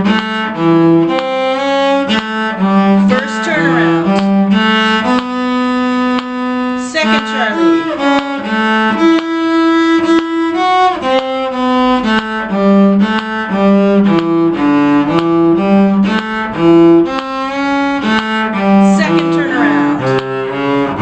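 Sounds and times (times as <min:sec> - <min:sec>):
fiddle tune: 0:00.0 - 0:21.0.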